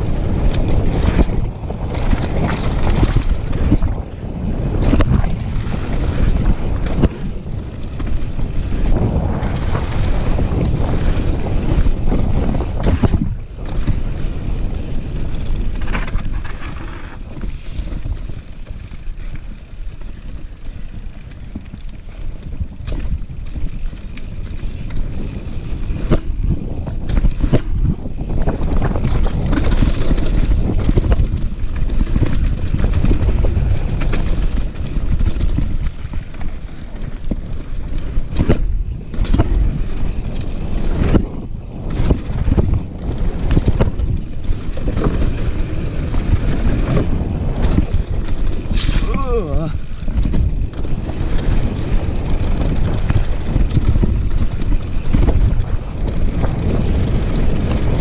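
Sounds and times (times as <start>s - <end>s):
tyres rolling over loose stones: 0.0s - 58.0s
wind buffeting microphone: 0.0s - 58.0s.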